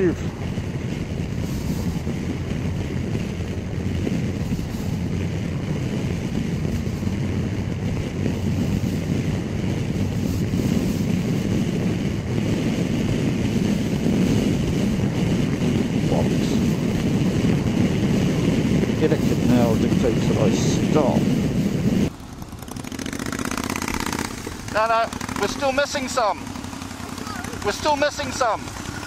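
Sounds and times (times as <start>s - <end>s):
motorcycle engine and road drone: 0.0s - 29.0s
wind rushing over microphone: 0.0s - 29.0s.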